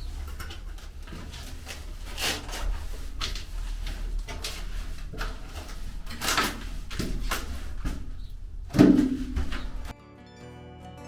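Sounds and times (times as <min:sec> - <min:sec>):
irregular knocks and scuffs: 0:00.0 - 0:09.9
steady low hum: 0:00.0 - 0:09.9.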